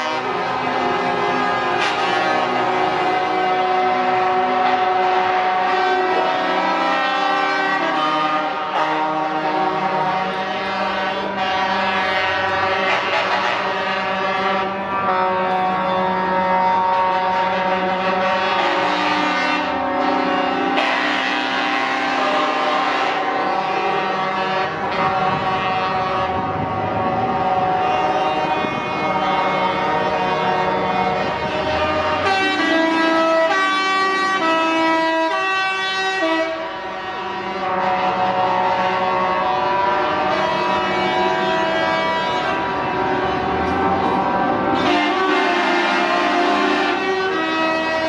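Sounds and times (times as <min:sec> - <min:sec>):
truck air horns: 0:00.0 - 0:48.0.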